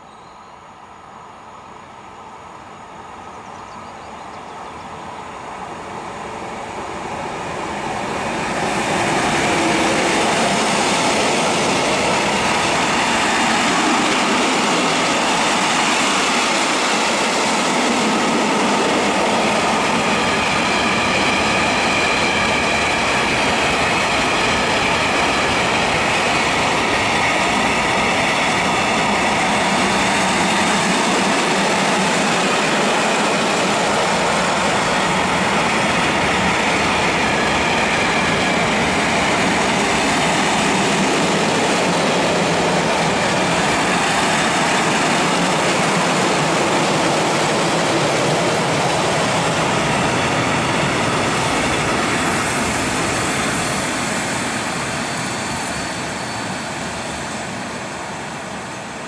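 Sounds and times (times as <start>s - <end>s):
electric locomotive approaching: 0.0s - 59.0s.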